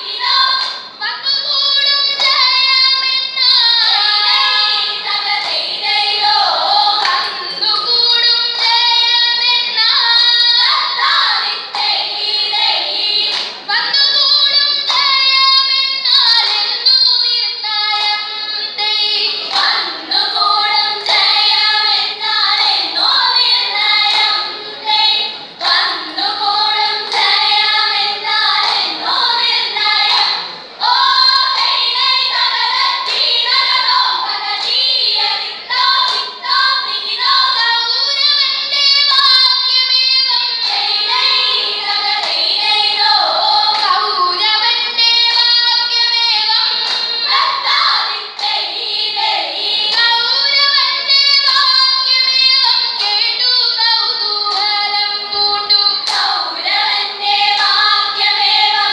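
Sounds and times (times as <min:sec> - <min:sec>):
girls singing together: 0:00.0 - 0:58.9.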